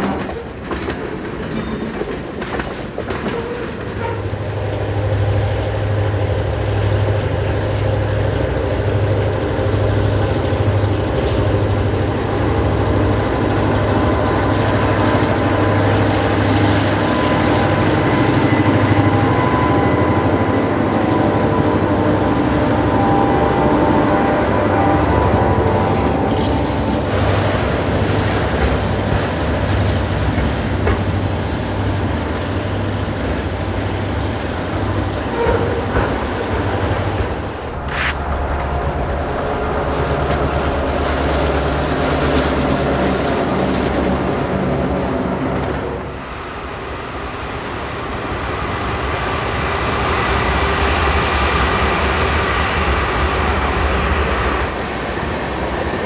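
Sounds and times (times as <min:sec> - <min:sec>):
train wheels clacking on rails: 0:00.0 - 0:46.3
diesel locomotive engine drone: 0:00.0 - 0:56.0.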